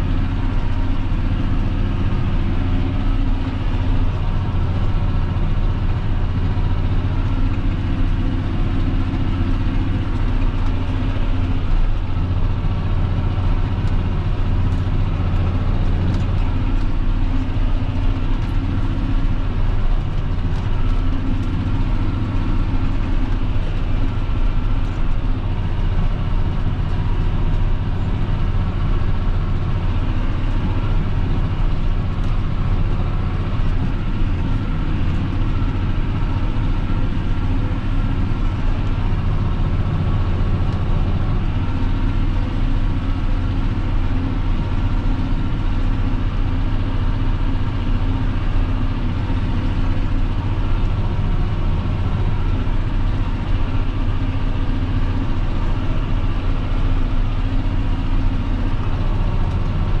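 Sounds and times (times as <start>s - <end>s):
diesel tractor engine running: 0.0s - 60.0s.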